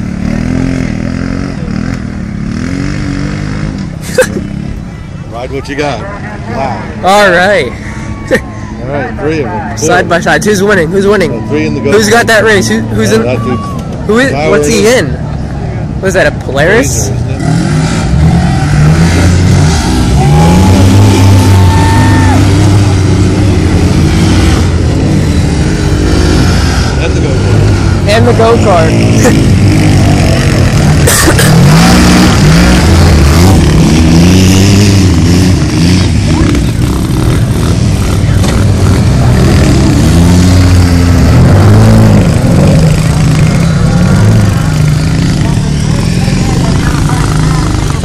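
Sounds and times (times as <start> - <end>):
race vehicle engines revving: 0.0 - 48.0.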